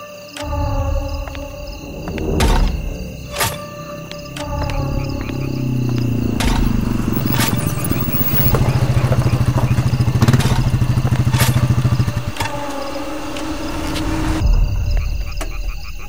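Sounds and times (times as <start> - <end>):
engine throbbing: 0.4 - 14.6.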